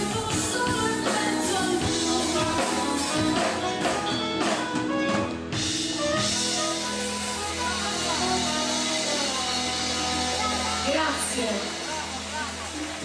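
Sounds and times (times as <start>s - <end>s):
live band with guitars and drums: 0.0s - 13.0s.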